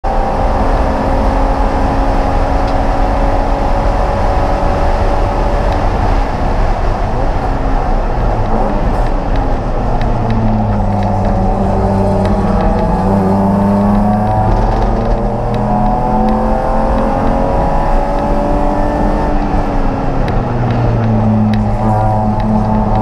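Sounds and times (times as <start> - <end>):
road and wind noise: 0.0 - 23.0
race car engine running hard: 0.1 - 23.0.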